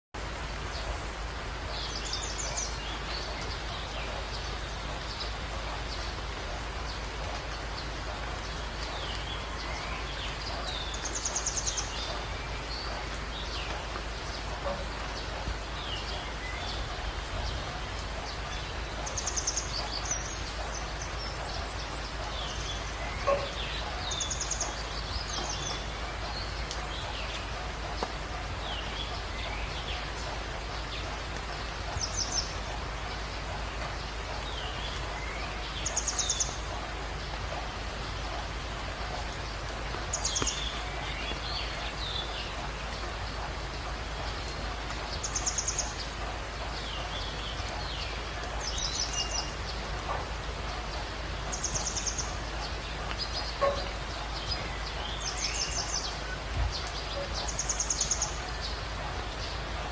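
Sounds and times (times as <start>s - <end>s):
birds calling: 0.2s - 59.9s
steady hiss: 0.2s - 59.9s.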